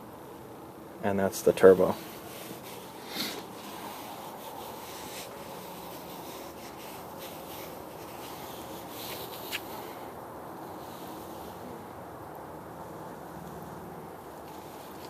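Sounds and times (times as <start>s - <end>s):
background hiss: 0.0s - 15.0s
soft handling rubs and ticks: 1.1s - 15.0s.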